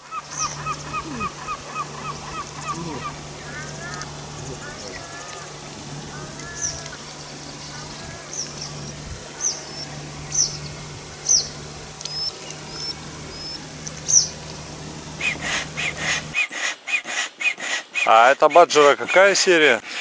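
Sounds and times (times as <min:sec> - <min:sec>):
small bird chirping: 0:00.0 - 0:16.3.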